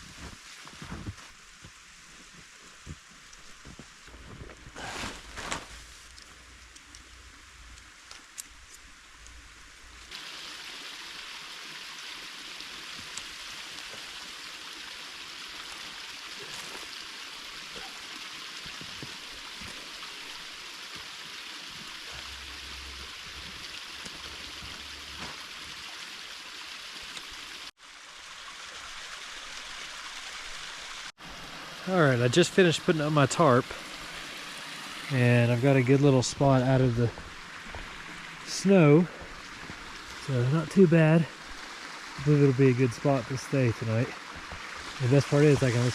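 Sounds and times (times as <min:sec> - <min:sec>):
creek water flowing: 0:00.0 - 0:45.9.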